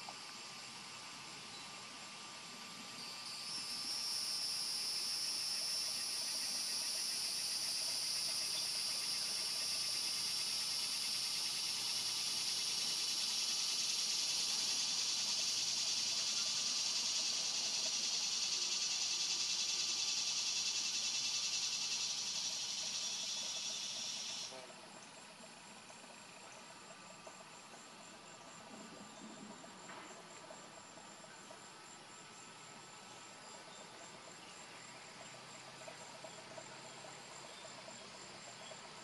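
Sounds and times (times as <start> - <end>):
insect chorus buzzing: 0.0 - 39.0.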